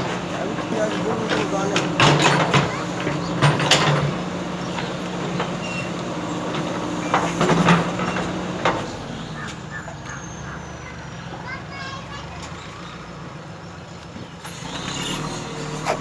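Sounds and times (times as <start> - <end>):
diesel engine running: 0.0 - 11.4, 12.1 - 16.0.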